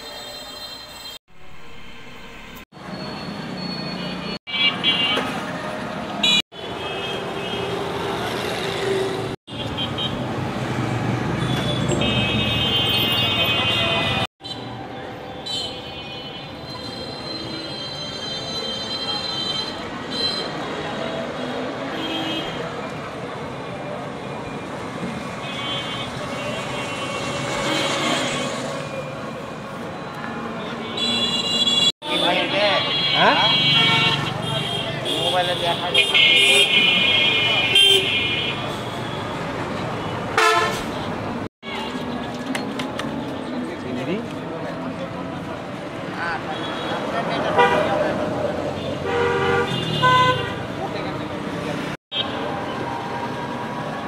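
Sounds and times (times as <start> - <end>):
street traffic: 0.0 - 54.0
vehicles passing: 1.4 - 15.1, 19.8 - 54.0.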